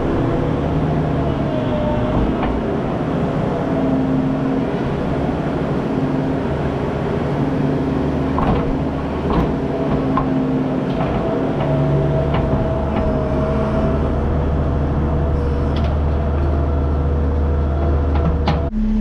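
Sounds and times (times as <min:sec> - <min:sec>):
clanks and rattles: 0:00.0 - 0:05.5, 0:08.1 - 0:18.7
farm machine engine running: 0:00.0 - 0:19.0.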